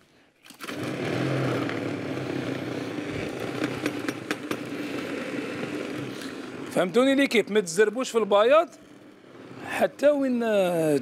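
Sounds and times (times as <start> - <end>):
electric food chopper running: 0.5 - 11.0.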